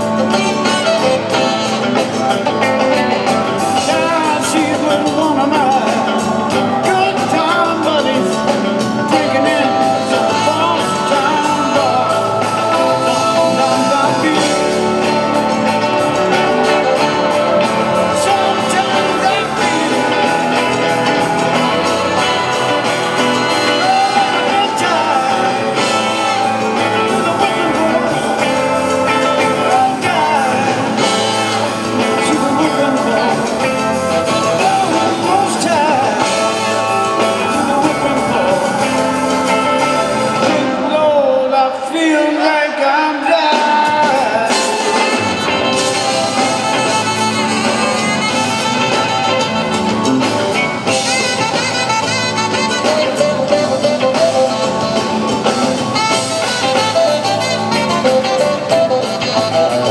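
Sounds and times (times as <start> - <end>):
bass: 0.0 - 59.9
drums: 0.0 - 59.9
electric guitars: 0.0 - 59.9
man singing lead vocal: 0.0 - 59.9
organ: 0.0 - 59.9.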